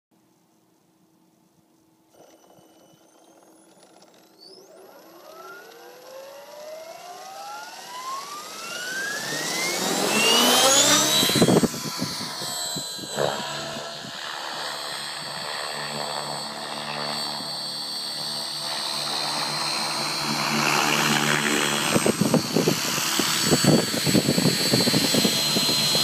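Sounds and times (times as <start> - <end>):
rc helicopter whine: 2.0 - 26.0
rotor drone: 2.0 - 26.0.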